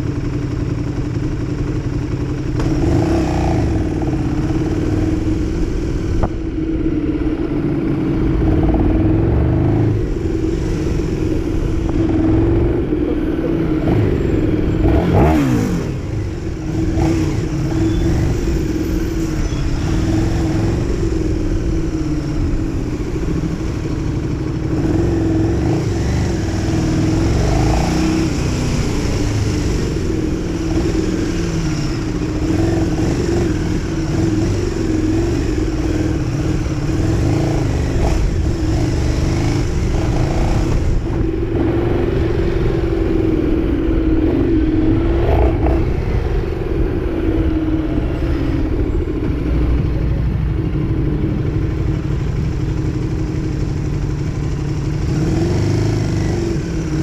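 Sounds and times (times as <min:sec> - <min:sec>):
motorcycle engine at low revs: 0:00.0 - 0:57.0.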